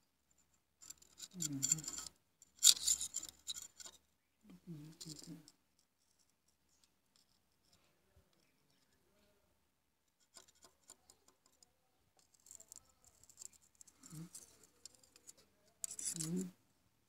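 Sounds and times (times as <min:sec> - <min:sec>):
faint scratching and clicks: 0:00.2 - 0:09.4, 0:10.0 - 0:16.6.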